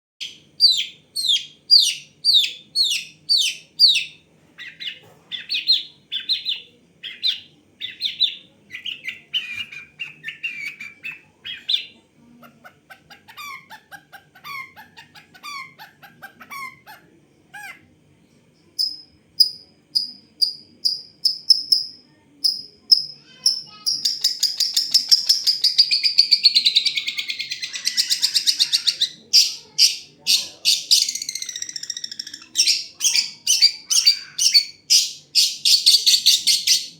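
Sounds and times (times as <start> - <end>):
bird singing varied song: 0.2 - 12.0, 18.8 - 36.9.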